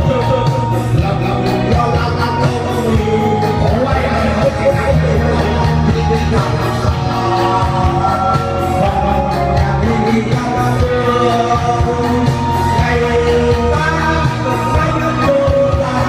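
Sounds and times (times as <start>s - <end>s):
person singing with instruments: 0.0s - 16.0s.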